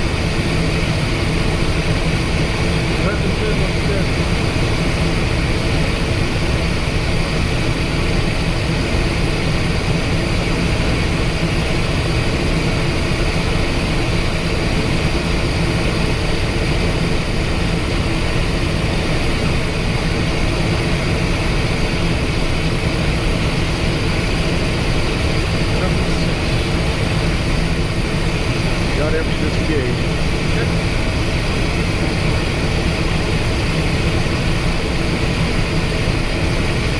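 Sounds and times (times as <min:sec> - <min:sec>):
jet cockpit engine noise: 0:00.0 - 0:36.9.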